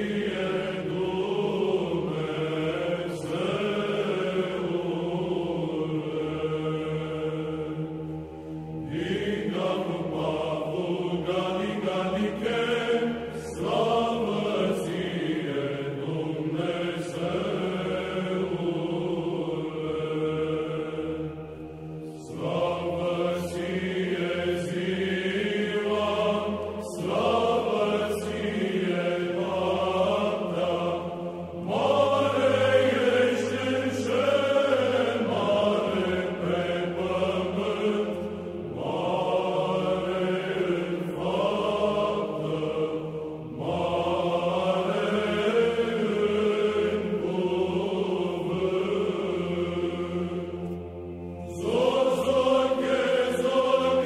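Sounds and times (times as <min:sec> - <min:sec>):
choral chant: 0:00.0 - 0:54.0
steady low drone: 0:00.0 - 0:54.0.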